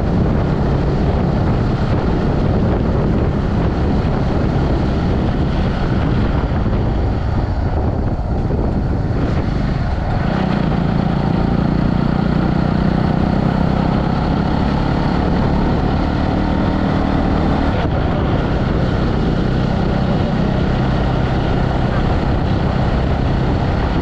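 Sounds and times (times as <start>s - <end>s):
motorcycle engine running: 0.0s - 24.0s
road noise: 0.0s - 24.0s.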